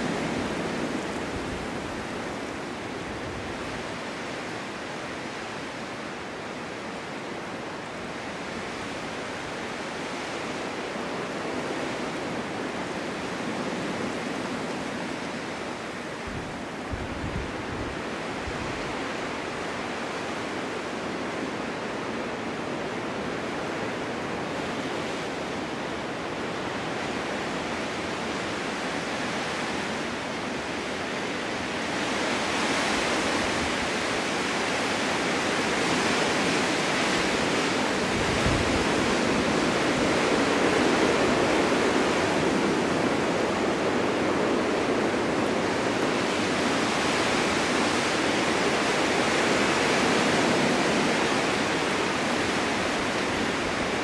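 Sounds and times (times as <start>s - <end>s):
snowstorm wind blowing: 0.0s - 54.0s.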